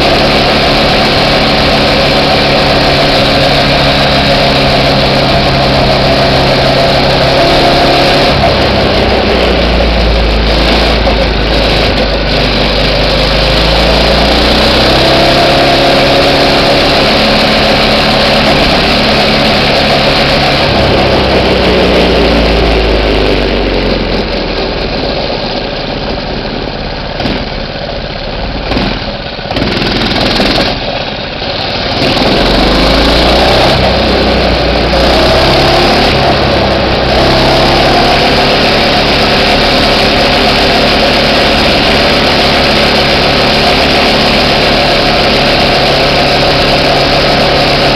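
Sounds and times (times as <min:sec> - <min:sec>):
minibike engine revving: 0:00.0 - 0:47.9.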